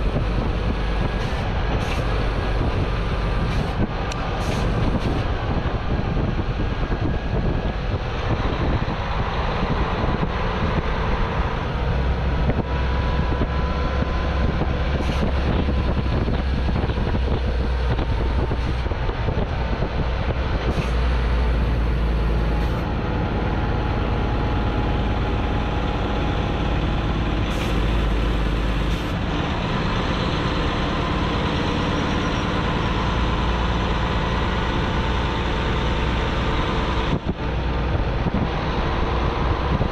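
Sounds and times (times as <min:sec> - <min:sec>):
road and wind noise: 0:00.0 - 0:39.9
truck diesel engine running: 0:00.0 - 0:39.9.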